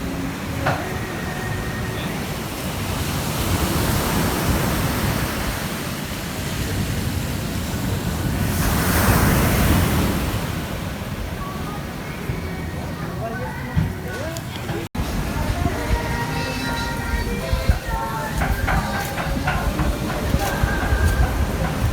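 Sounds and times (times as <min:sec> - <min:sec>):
ocean surf on beach: 0:00.0 - 0:21.9.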